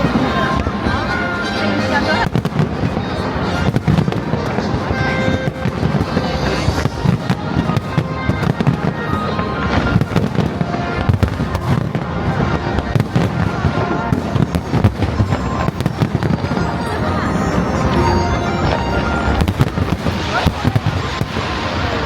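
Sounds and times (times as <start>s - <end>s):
fireworks bangs and crackles: 0.0s - 22.0s
music: 0.0s - 22.0s
voices: 0.0s - 22.0s.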